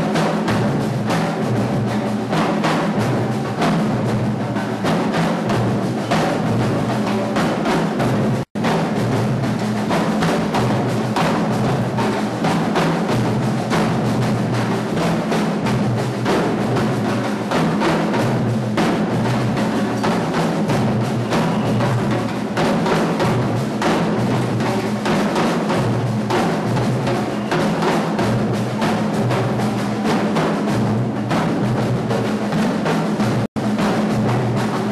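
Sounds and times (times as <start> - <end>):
drum kit played fast: 0.0 - 34.9.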